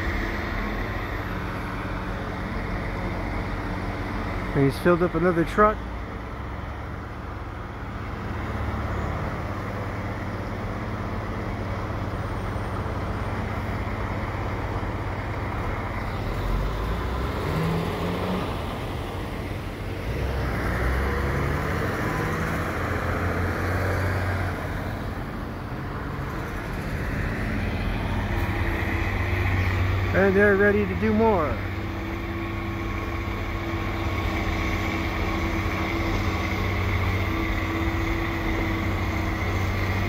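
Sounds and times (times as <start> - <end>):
heavy diesel engines rumbling: 0.0 - 40.0.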